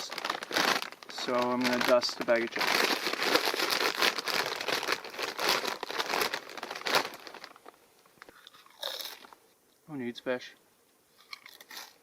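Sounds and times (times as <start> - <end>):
chip bag crinkling: 0.0 - 9.4, 11.2 - 12.0.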